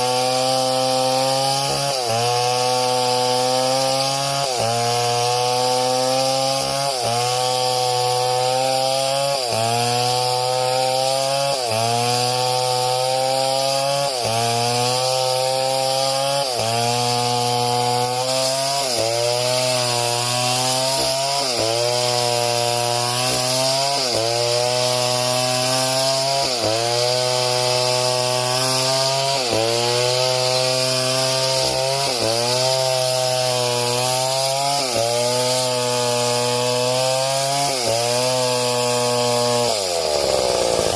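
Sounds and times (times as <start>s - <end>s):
chainsaw cutting through wood: 0.0s - 40.9s.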